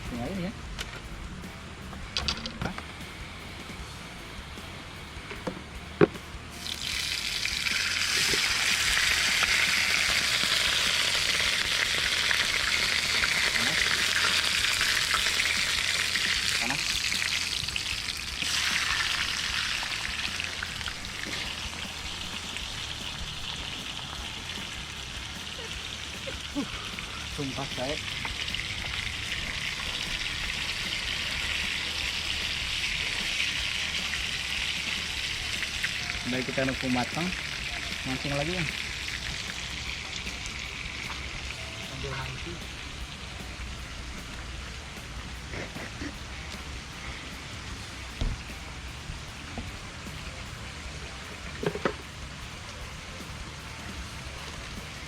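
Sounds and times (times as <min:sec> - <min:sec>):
fish sizzling in hot oil: 0:06.6 - 0:55.0.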